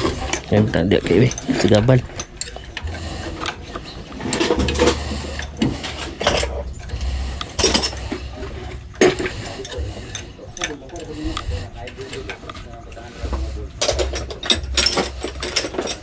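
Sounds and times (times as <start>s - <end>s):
low hum: 0.0s - 16.0s
wrenches clinking and ratcheting on metal: 0.0s - 16.0s.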